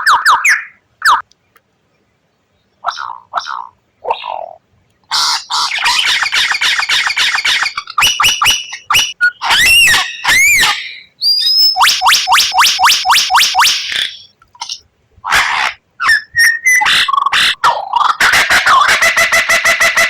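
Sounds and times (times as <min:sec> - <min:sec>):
songbird singing varied song: 0:00.0 - 0:14.9, 0:16.0 - 0:17.3.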